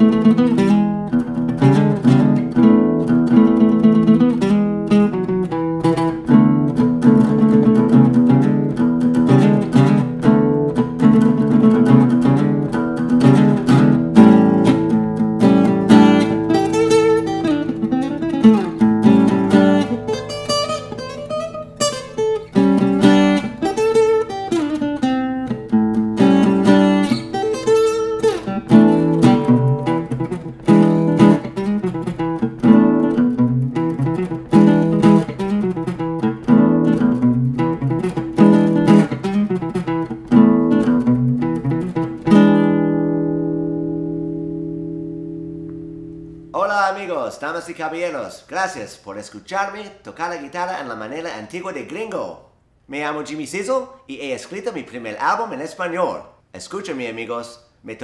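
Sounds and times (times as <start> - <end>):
acoustic guitar: 0.0 - 46.7.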